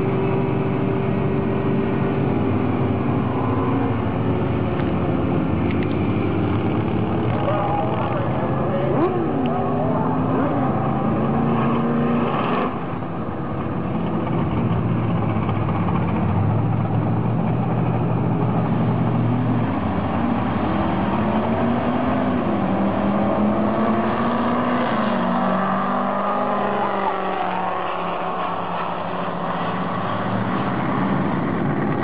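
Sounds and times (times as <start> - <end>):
diesel truck engines revving: 0.0 - 32.0.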